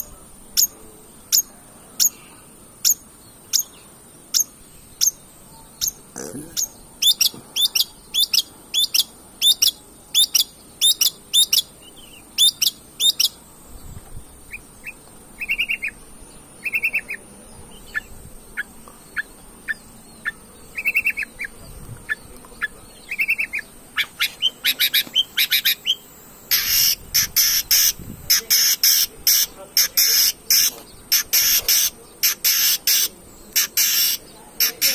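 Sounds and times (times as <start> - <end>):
bird chattering trills: 0.0 - 13.4, 14.5 - 16.0, 16.6 - 17.2, 17.8 - 34.9.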